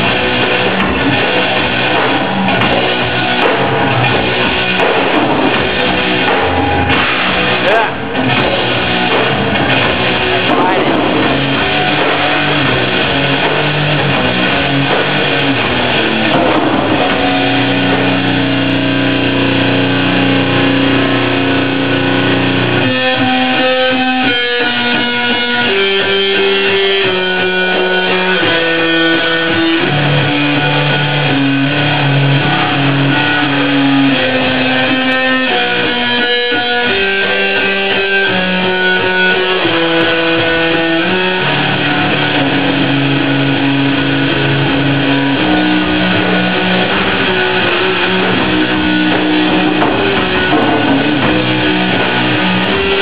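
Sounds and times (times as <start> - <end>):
drums: 0.0 - 53.0
electric guitar rock: 0.0 - 53.0.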